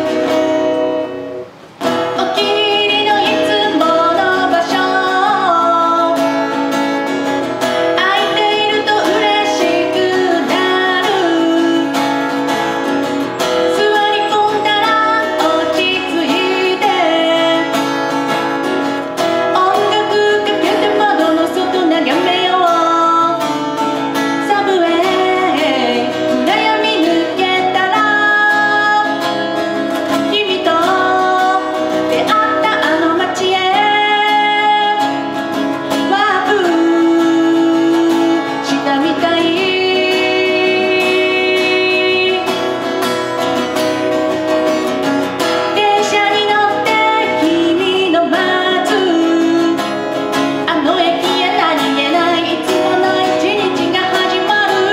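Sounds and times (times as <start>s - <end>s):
woman singing: 0.0s - 44.8s, 45.4s - 54.9s
acoustic guitar strumming: 0.0s - 54.9s.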